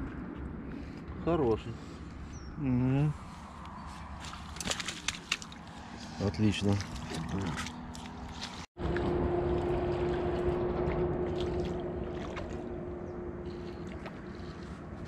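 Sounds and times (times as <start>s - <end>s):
motorboat engine humming: 1.9s - 15.0s.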